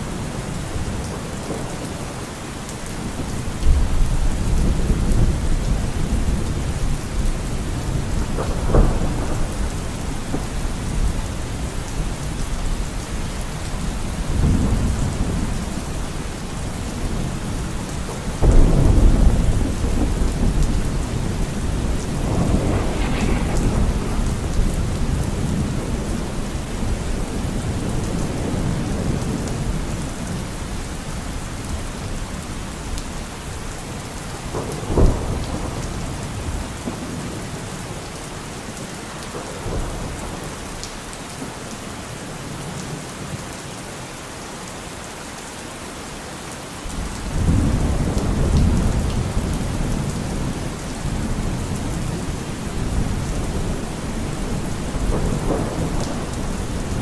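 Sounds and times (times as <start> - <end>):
rolling thunder: 0.0 - 40.8, 46.9 - 57.0
steady rain falling: 0.0 - 57.0.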